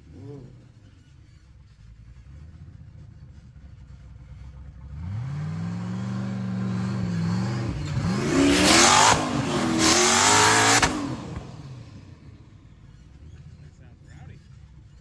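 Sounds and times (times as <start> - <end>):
utility vehicle engine revving: 0.0 - 15.0.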